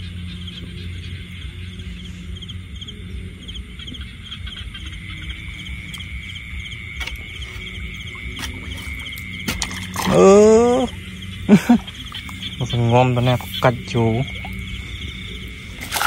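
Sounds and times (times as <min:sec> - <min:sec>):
frogs and insects chirping: 0:00.0 - 0:16.0.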